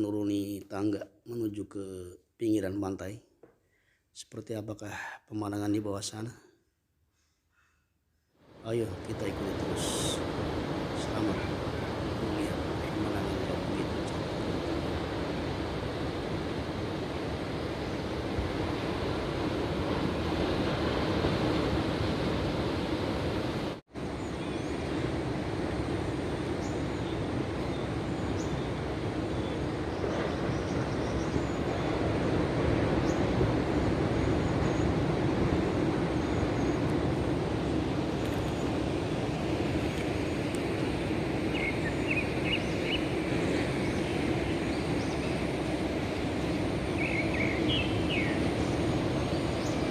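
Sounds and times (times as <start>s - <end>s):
sea surf breaking: 8.5s - 49.9s.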